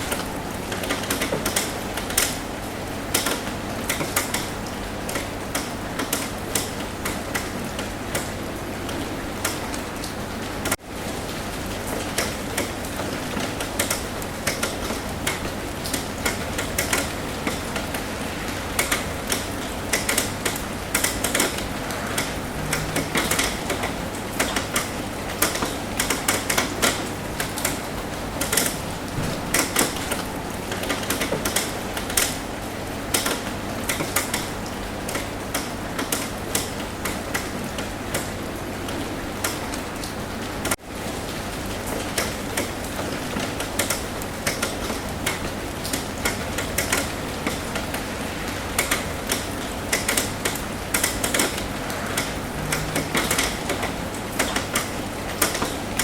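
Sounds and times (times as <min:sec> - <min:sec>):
rain on a roof: 0:00.0 - 0:56.0
raindrops tapping roof: 0:00.0 - 0:56.0.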